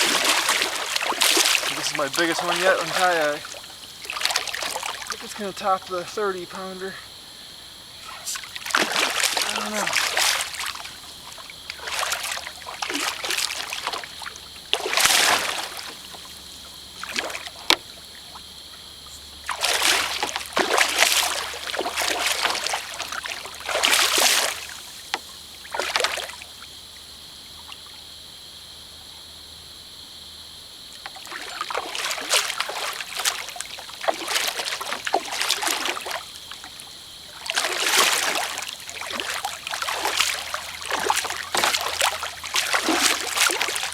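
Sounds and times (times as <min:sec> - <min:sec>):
fish thrashing water: 0:00.0 - 0:07.1, 0:07.9 - 0:26.5, 0:31.1 - 0:43.9.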